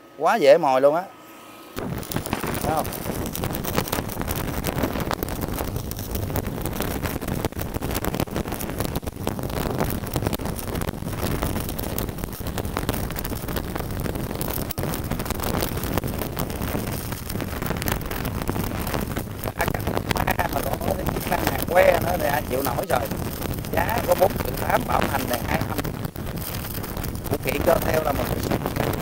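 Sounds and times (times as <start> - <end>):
welding arc crackling: 1.8 - 29.0.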